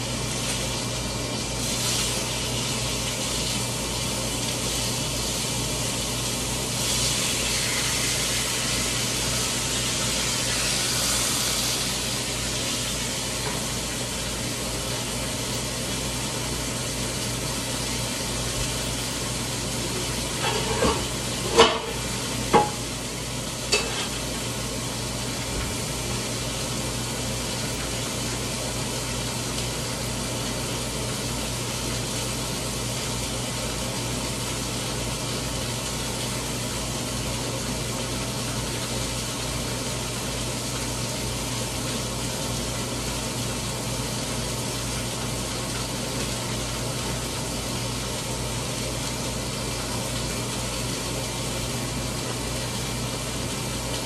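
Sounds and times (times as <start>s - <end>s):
frying pan sizzling: 0.0s - 54.0s.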